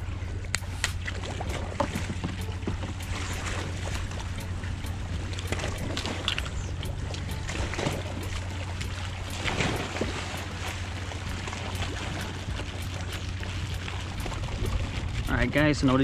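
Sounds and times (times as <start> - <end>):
shoreline water washing: 0.0 - 16.0.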